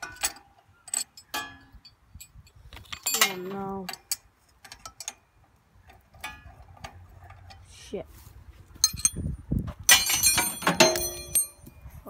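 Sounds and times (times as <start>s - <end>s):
metal tools clinking: 0.0s - 7.7s, 8.8s - 9.3s, 9.9s - 11.8s.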